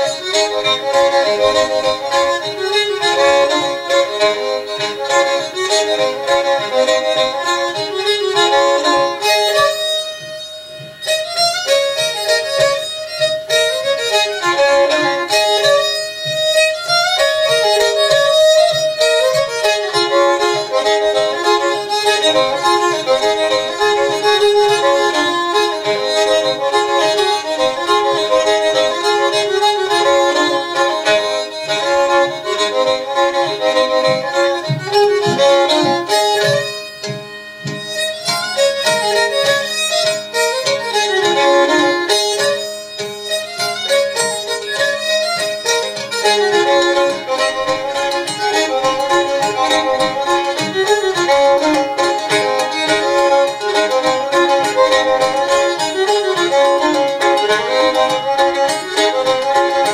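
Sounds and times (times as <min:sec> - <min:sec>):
fiddle playing a quick tune: 0:00.0 - 0:59.9.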